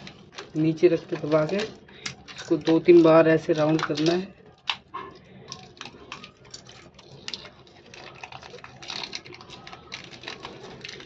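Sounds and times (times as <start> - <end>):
packing tape crackling: 0.0 - 11.0.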